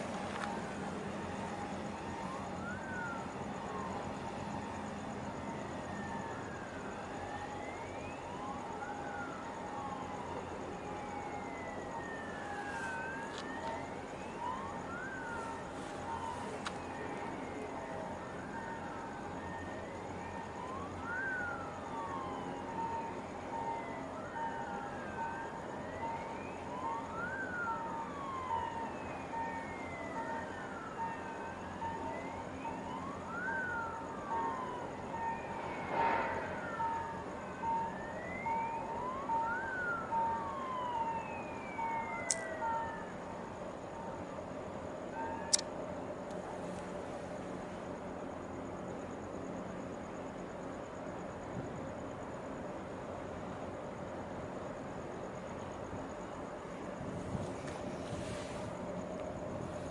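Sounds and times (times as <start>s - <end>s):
sirens wailing: 0.0s - 59.9s
steady background hiss: 0.0s - 59.9s.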